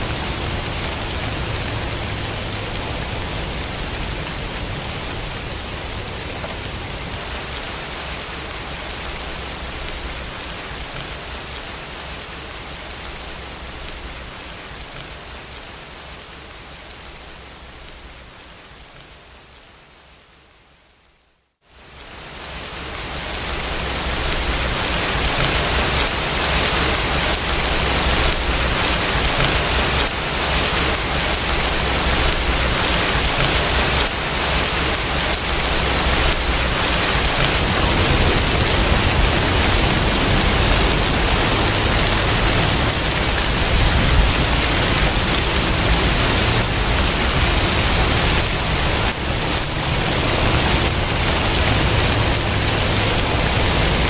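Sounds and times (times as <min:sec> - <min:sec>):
heavy rain: 0:00.0 - 0:20.7, 0:21.7 - 0:54.0.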